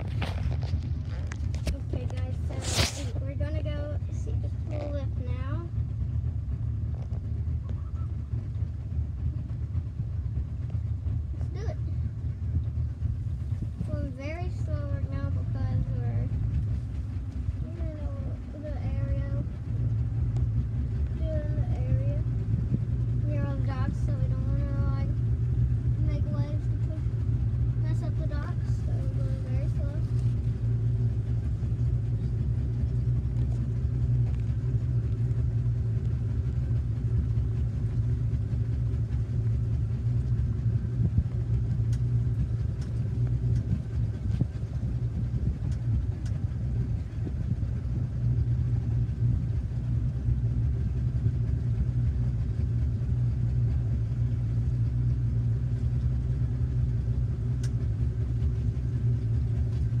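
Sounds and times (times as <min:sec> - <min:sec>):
motorboat engine droning: 0:00.0 - 1:00.0.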